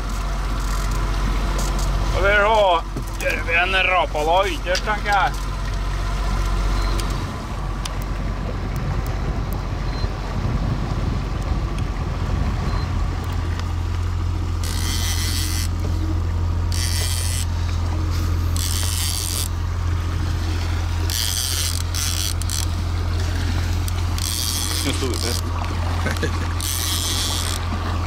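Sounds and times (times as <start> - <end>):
outboard motor droning: 0.0 - 28.0.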